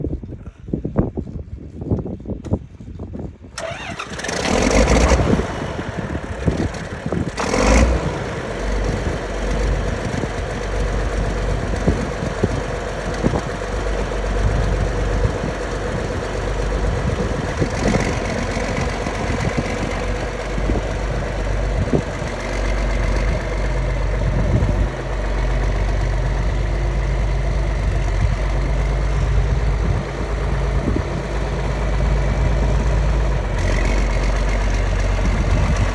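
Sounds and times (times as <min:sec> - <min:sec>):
diesel tractor engine starting: 0:02.4 - 0:35.9
diesel engine idling: 0:03.6 - 0:35.9.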